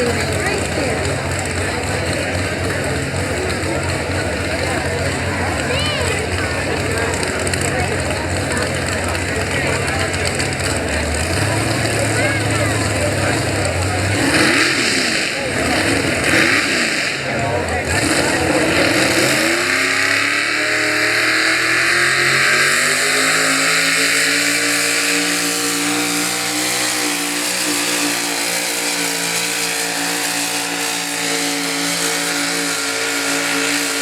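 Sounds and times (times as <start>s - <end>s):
pickup truck engine under load: 0.0s - 34.0s.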